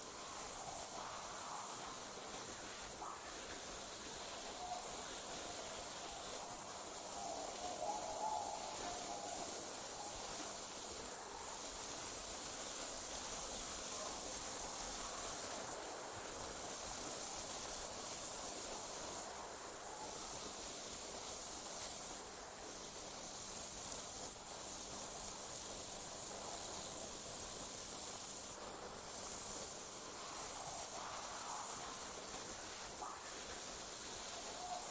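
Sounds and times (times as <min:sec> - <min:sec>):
night insects trilling: 0:00.0 - 0:34.9.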